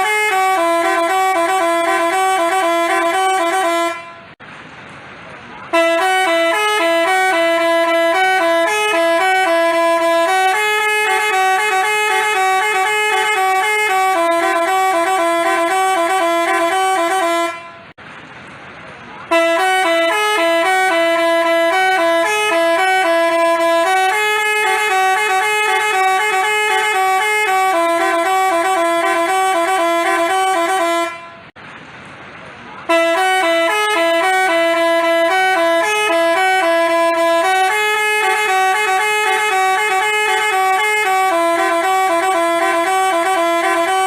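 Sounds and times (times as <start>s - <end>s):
musical horn melody: 0.0s - 4.4s, 5.7s - 17.9s, 19.3s - 31.5s, 32.9s - 44.0s.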